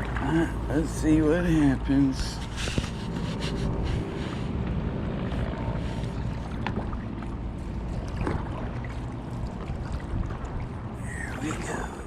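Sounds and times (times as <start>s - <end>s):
water splashing around a kayak: 0.0s - 12.0s
wind rumbling on microphone: 0.0s - 12.0s.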